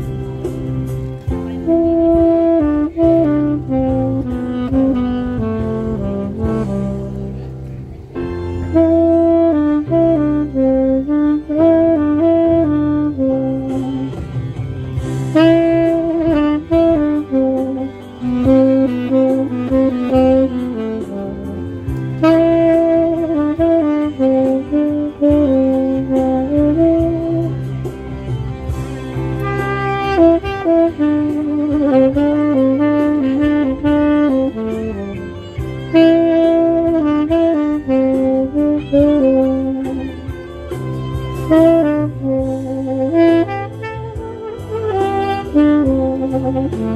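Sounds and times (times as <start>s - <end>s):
low sustained bass notes: 0.0s - 46.9s
saxophone playing slow melody: 0.0s - 46.9s.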